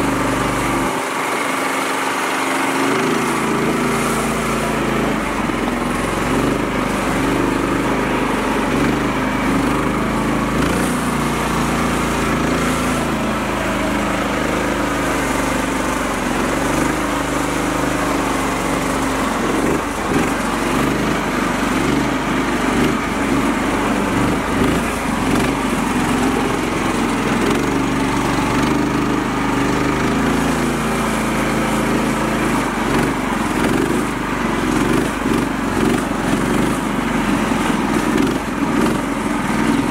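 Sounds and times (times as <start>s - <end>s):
small tractor engine running: 0.0s - 39.9s
wheels splashing muddy water: 0.0s - 39.9s.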